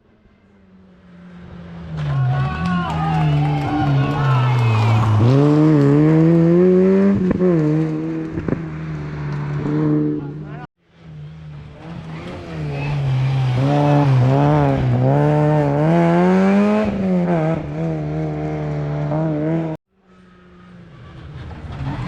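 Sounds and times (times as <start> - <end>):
rally car engine working hard: 0.3 - 22.0.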